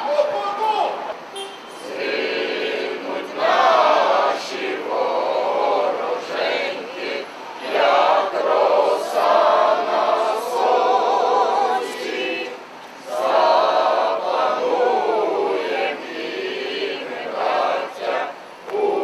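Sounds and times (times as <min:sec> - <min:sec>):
men and women singing together: 0:01.8 - 0:19.0.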